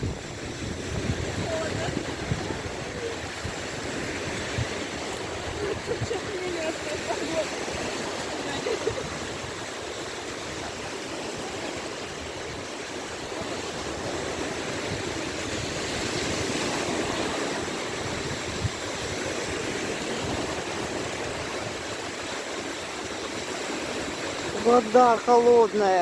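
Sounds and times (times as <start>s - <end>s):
small waves washing onto shore: 0.0s - 26.0s.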